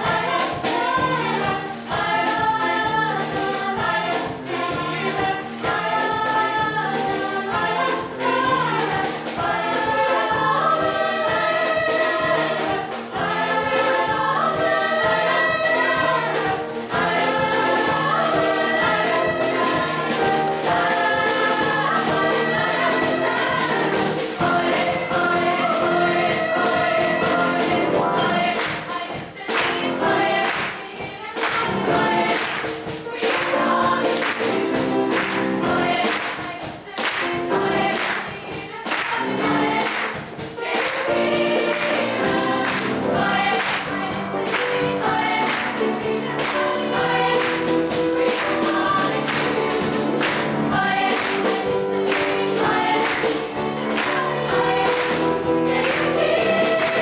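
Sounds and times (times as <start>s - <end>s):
girls' choir singing: 0.0s - 57.0s
steady percussive beat: 0.0s - 57.0s.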